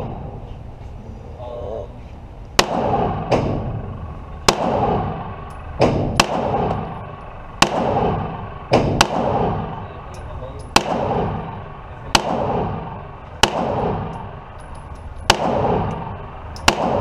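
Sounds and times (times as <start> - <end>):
gunshots with ringing echo: 2.6 - 17.0.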